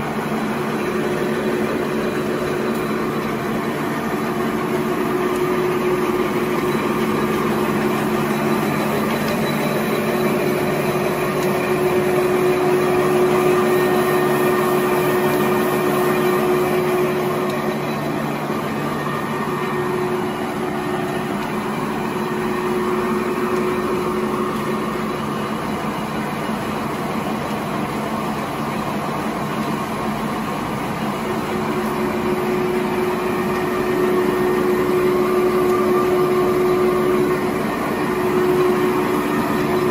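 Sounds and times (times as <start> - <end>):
machinery whirring and humming: 0.0 - 39.9.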